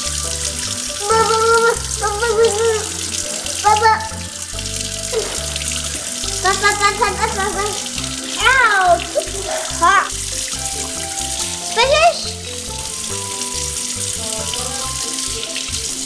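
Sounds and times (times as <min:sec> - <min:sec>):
background music with bass line: 0:00.0 - 0:16.0.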